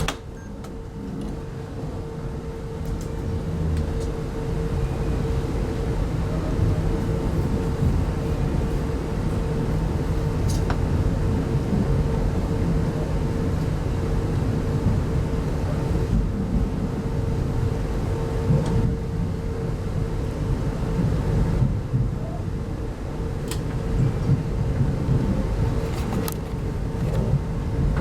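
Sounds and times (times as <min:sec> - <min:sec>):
constant hum: 0:00.0 - 0:28.0
train coach rumble: 0:00.0 - 0:28.0.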